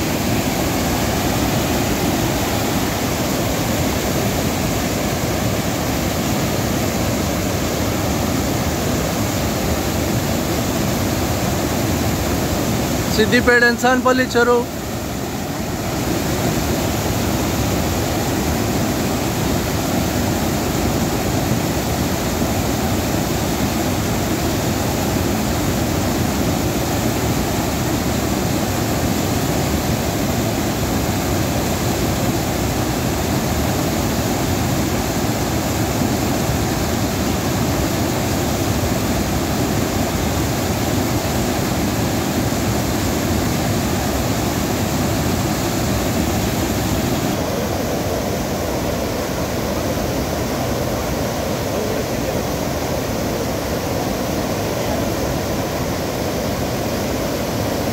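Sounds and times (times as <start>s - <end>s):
water rushing over weir: 0.0s - 57.9s.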